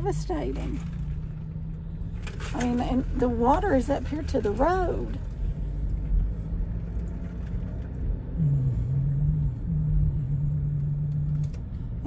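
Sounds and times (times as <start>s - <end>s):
car engine hum from inside: 0.0s - 12.0s.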